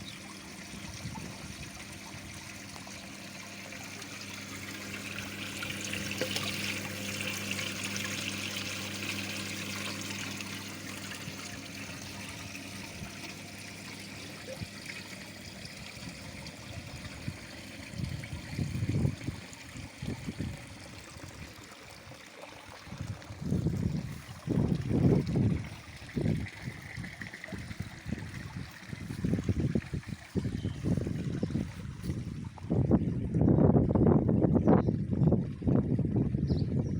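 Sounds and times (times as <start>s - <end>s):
waterfall trickling and splashing: 0.0s - 32.4s
low steady hum: 0.0s - 36.9s.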